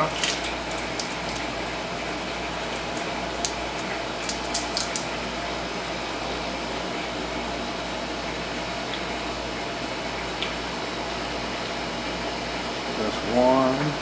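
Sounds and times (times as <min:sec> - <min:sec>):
steady fan-like noise: 0:00.0 - 0:14.0.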